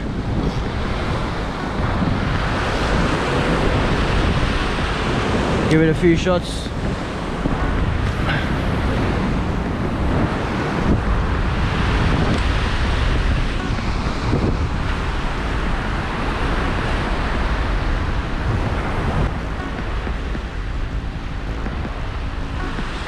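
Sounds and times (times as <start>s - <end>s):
ocean swell washing over rocks: 0.0s - 23.0s
wind buffeting microphone: 0.0s - 23.0s.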